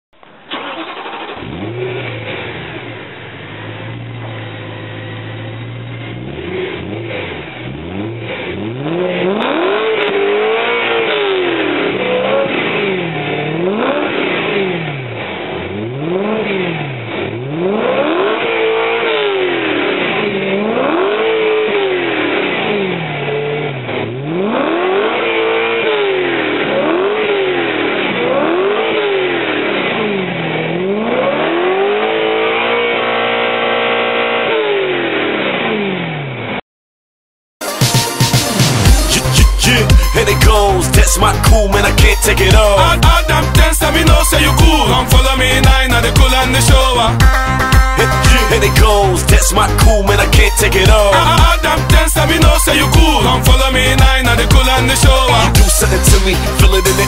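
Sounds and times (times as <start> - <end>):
car engine idling and revving: 0.2 - 36.6, 38.2 - 57.0
car engine starting: 0.2 - 36.6, 37.6 - 57.0.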